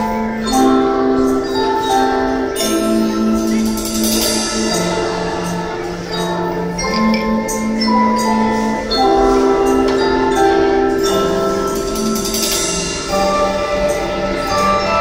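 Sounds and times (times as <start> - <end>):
marimba ensemble playing: 0.0 - 15.0.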